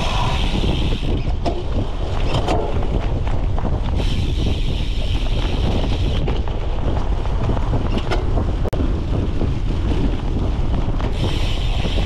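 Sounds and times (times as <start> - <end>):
bike rumbling over rough ground: 0.0 - 12.0
wind buffeting microphone: 0.0 - 12.0.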